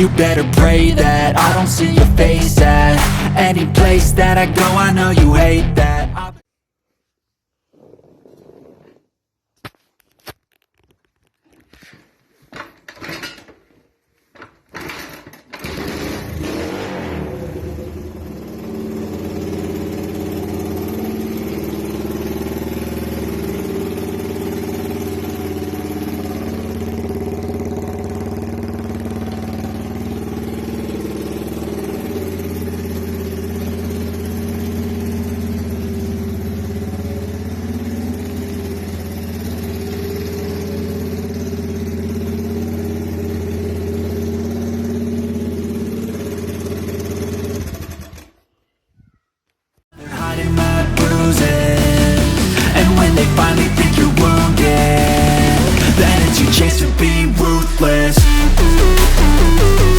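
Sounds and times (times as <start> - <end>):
motorcycle engine starting and idling: 0.0 - 6.4, 14.3 - 48.5, 50.0 - 59.9.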